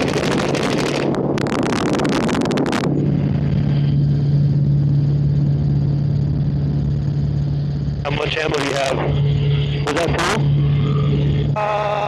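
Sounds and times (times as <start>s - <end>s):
helicopter drone: 0.0s - 12.0s.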